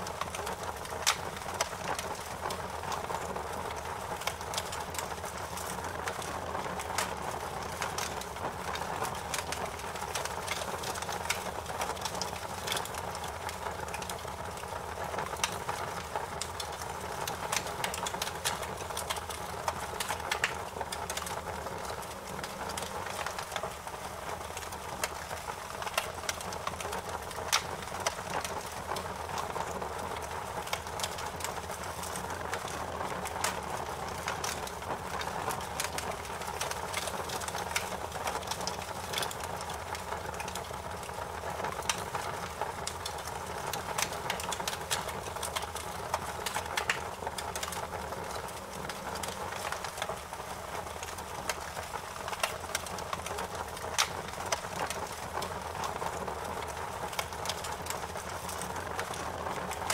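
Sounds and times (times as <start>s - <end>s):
fire crackling and popping: 0.0s - 59.9s
steady fire hiss: 0.0s - 59.9s.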